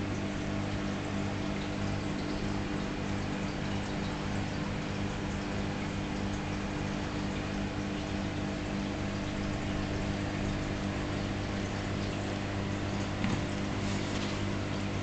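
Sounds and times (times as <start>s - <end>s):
aquarium pumps humming: 0.0s - 15.0s.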